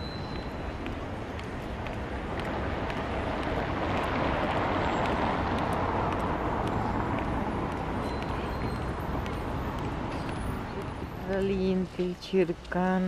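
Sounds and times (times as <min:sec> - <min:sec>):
vehicle passing: 0:00.8 - 0:11.9.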